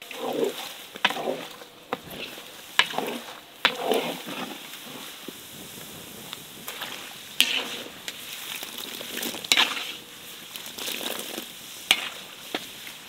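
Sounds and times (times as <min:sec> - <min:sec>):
meat sizzling in fat: 0:00.0 - 0:13.0.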